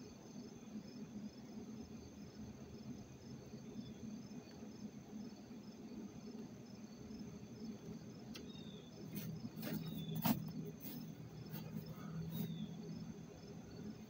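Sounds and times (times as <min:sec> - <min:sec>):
crickets chirping: 0:00.0 - 0:14.0
low steady hum: 0:00.0 - 0:14.0.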